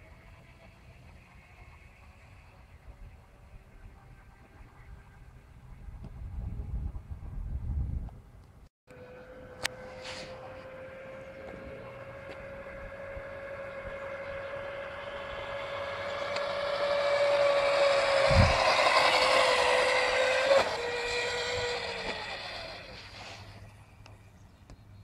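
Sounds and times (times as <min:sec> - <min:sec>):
electric scooter motor whining: 0:00.0 - 0:07.9, 0:08.9 - 0:24.6.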